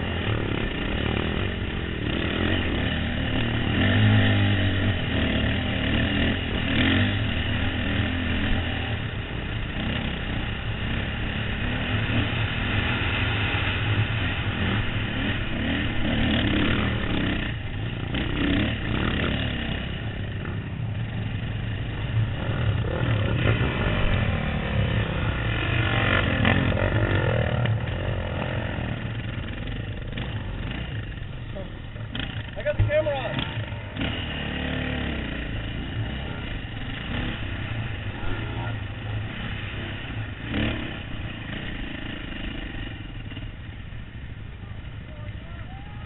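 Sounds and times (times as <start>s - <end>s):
dirt bike engine revving: 0.0s - 44.3s.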